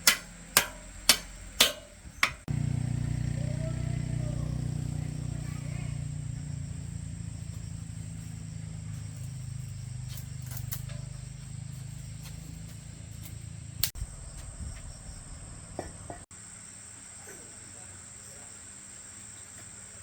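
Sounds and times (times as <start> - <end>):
motorbike engine idling: 0.0 - 16.3.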